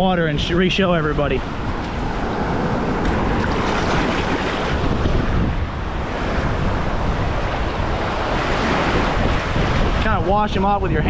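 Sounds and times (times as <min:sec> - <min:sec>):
wind buffeting microphone: 0:00.0 - 0:11.0
surf waves washing over sand: 0:00.1 - 0:11.0.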